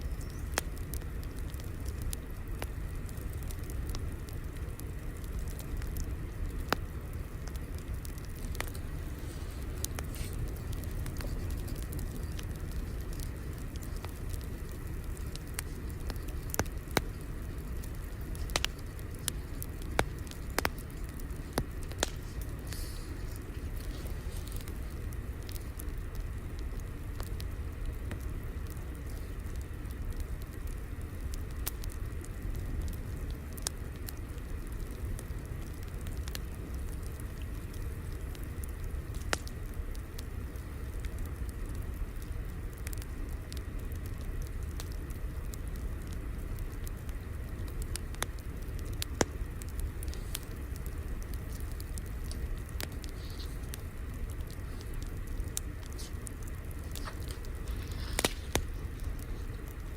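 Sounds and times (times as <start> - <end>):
fire popping and snapping: 0.0 - 59.9
wood fire crackling: 0.0 - 59.9.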